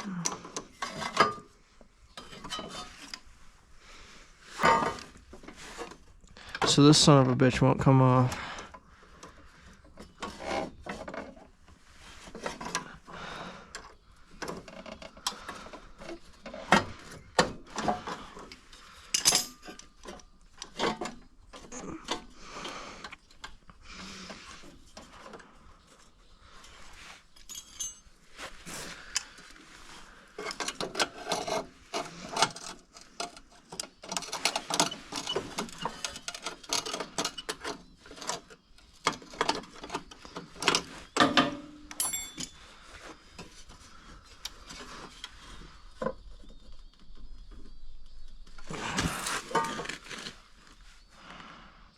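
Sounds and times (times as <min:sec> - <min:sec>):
hand tools clinking and scraping: 0:00.0 - 0:03.6, 0:04.4 - 0:08.6, 0:09.2 - 0:46.6, 0:48.6 - 0:50.8.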